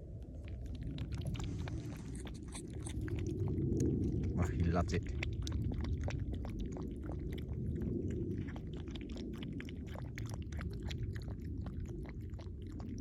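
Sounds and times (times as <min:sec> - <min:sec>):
low rumble: 0:00.0 - 0:13.0
puppy eating wet food: 0:00.0 - 0:13.0.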